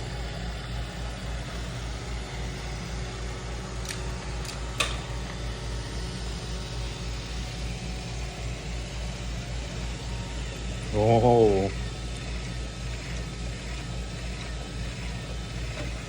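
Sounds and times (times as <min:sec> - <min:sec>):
robot vacuum motor humming: 0:00.0 - 0:16.0.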